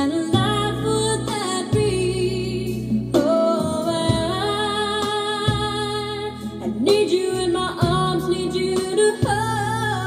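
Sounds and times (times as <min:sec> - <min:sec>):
slow ballad over loudspeakers: 0:00.0 - 0:10.0.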